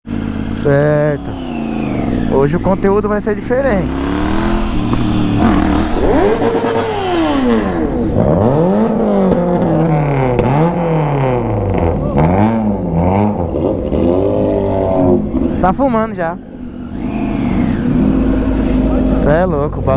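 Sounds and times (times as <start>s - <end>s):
engine revving: 0.0s - 19.9s.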